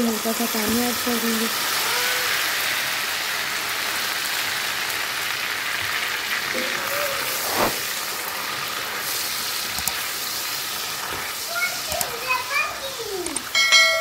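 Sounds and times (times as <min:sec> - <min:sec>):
hot oil sizzling and bubbling: 0:00.0 - 0:14.0.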